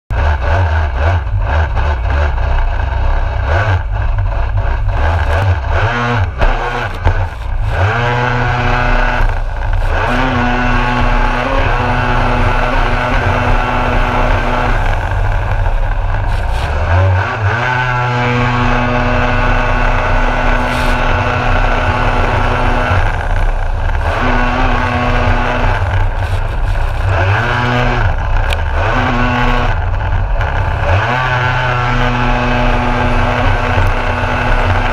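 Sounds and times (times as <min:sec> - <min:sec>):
jet ski engine revving: 0:00.1 - 0:34.9.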